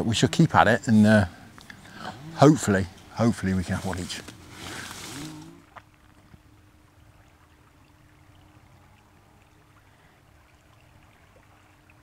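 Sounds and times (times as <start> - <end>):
faint steady hum: 0.0 - 12.0
river water flowing: 0.0 - 12.0.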